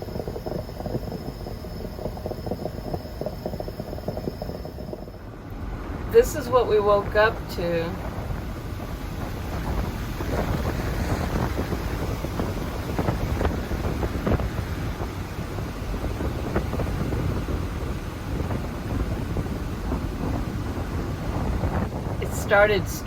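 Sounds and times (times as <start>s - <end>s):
gusty wind on microphone: 0.0s - 23.0s.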